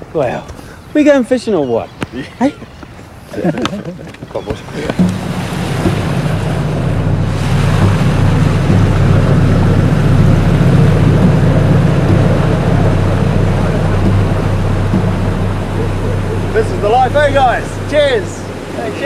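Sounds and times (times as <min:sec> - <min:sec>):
boat engines droning: 0:00.0 - 0:19.0
water rushing along hull: 0:00.0 - 0:19.0.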